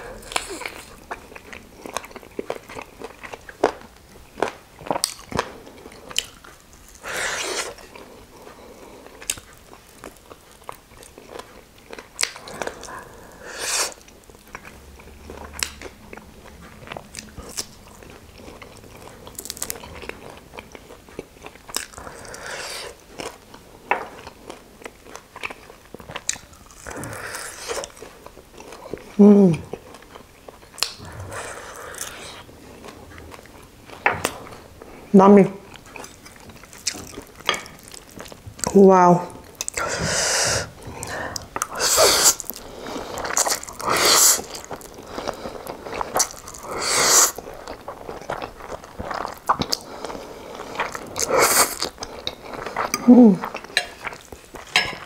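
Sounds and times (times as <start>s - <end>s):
chewing: 0.0s - 38.8s, 39.4s - 55.0s.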